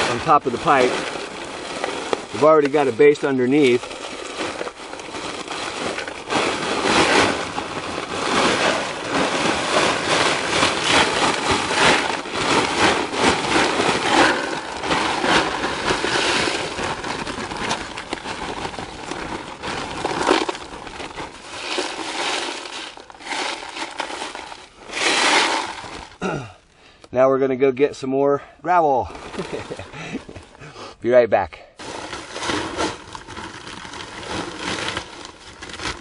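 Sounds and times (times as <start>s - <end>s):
stones pouring into a trench: 0.0s - 26.5s, 29.0s - 30.5s, 31.8s - 36.0s.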